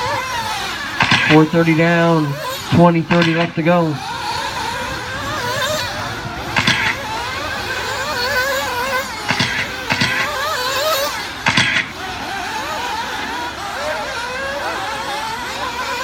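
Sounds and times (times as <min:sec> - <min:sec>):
rc buggy engines whining: 0:00.0 - 0:16.0.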